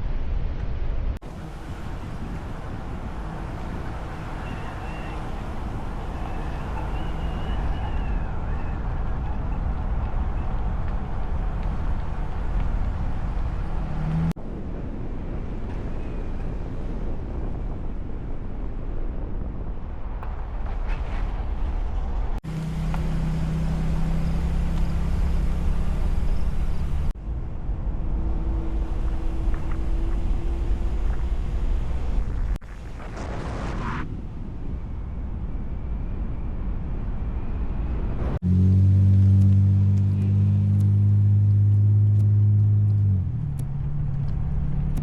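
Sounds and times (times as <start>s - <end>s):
low rumble: 0.0s - 45.0s.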